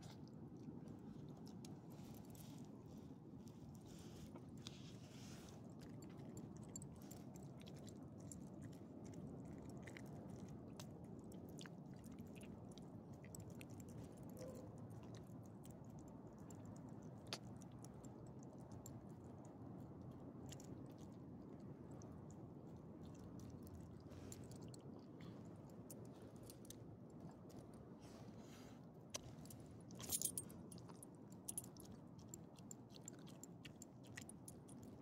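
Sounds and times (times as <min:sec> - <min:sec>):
dog chewing and licking: 0:00.0 - 0:28.2, 0:29.1 - 0:35.0.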